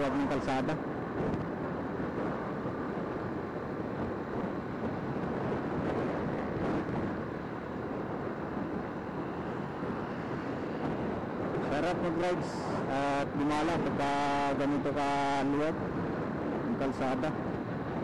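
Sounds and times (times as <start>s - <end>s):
road noise: 0.0s - 18.0s
wind rushing over microphone: 0.0s - 18.0s.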